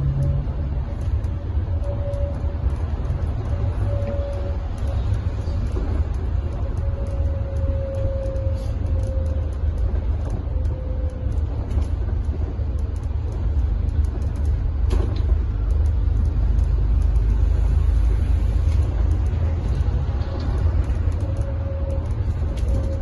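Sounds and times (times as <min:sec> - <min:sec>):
bus engine and road noise: 0:00.0 - 0:23.0.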